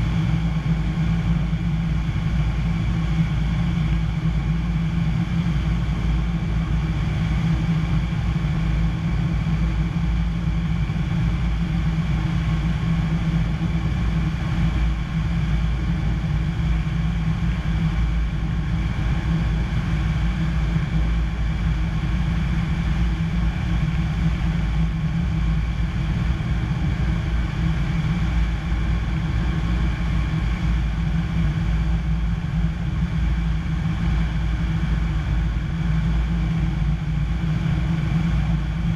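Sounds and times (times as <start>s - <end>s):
airplane engine and propeller: 0.0s - 38.9s.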